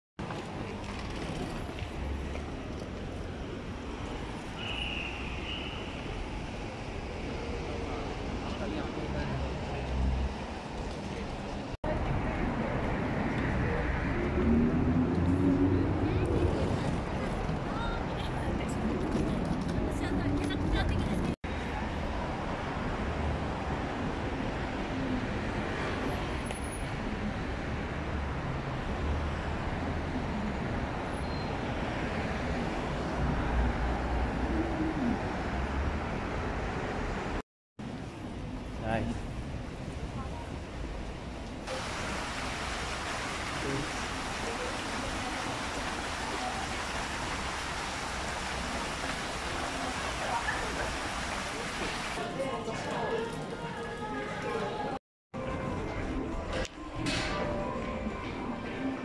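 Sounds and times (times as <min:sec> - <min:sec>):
road traffic rumble: 0:00.2 - 0:59.0.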